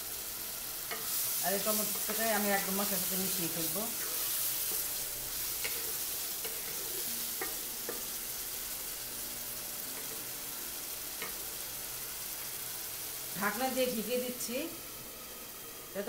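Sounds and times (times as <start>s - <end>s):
masala sizzling in a pan: 0.0s - 16.0s.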